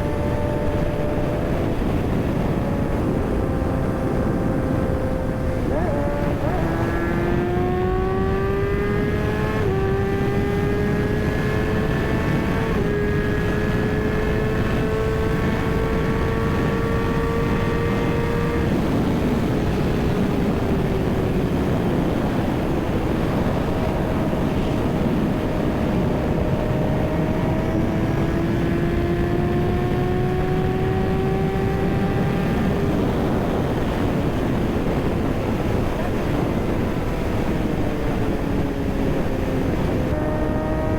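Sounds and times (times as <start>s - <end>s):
motorcycle engine accelerating: 0.0s - 40.9s
wind rush: 0.0s - 40.9s.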